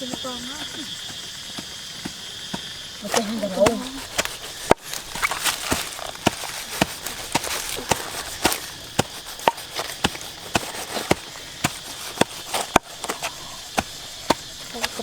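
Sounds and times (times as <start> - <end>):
knife chopping on cutting board: 2.0 - 14.5.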